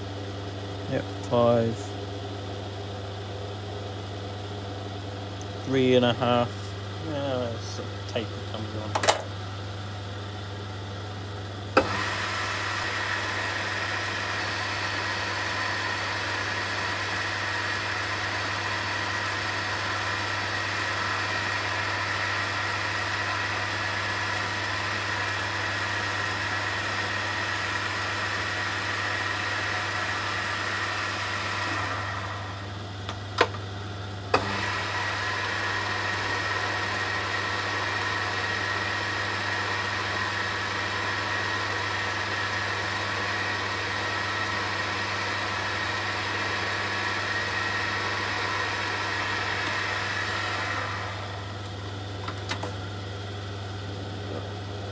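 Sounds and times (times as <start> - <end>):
lathe motor whine and hum: 0.0 - 54.9.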